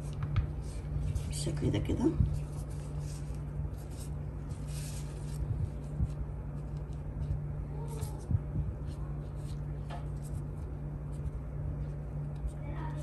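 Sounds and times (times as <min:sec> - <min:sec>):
plastic rustling: 0:00.0 - 0:13.0
steady low hum: 0:00.0 - 0:13.0.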